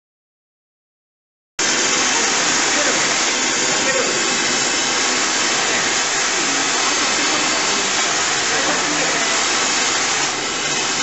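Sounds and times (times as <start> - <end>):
welding torch hissing: 1.6 - 11.0.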